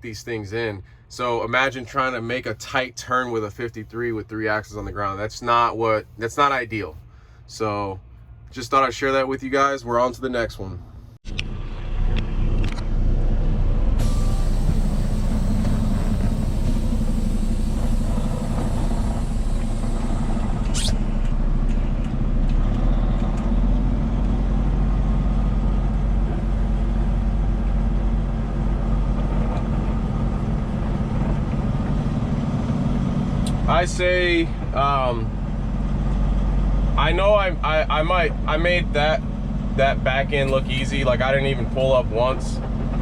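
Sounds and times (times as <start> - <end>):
diesel truck engine and road drone: 0.0 - 43.0.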